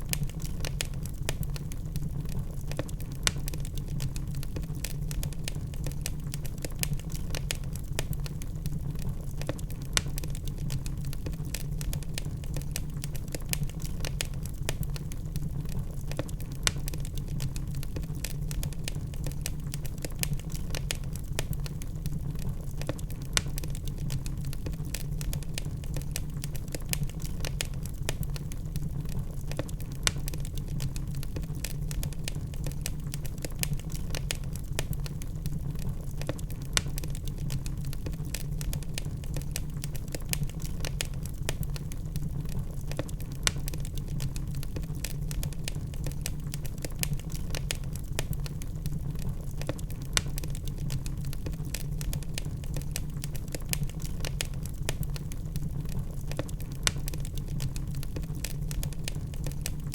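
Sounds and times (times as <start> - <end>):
low rumble of flames: 0.0 - 59.9
wood logs crackling and popping: 0.0 - 59.9.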